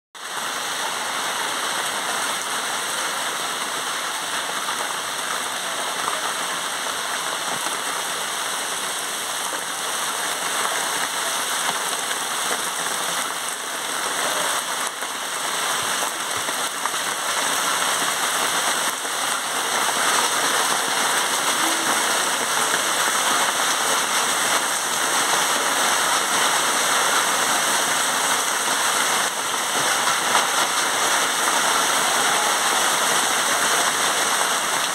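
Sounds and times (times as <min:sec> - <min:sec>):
heavy rain on water: 0:00.2 - 0:34.9.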